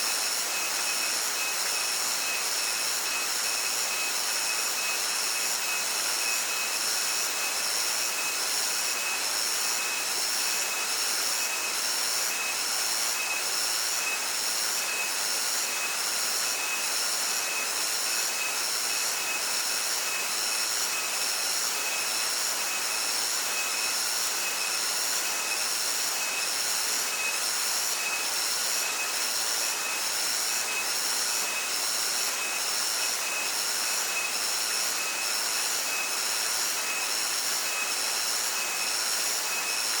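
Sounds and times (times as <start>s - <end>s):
cicadas droning: 0.1s - 40.0s.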